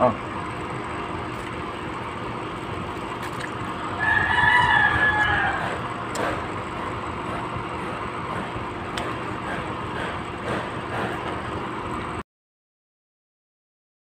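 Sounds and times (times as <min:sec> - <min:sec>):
low hum: 0:00.1 - 0:12.2.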